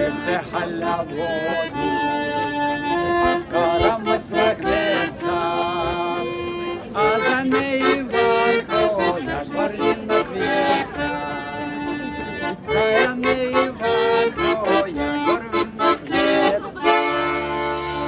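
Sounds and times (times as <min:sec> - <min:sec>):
accordion playing lively tune: 0:00.0 - 0:18.0.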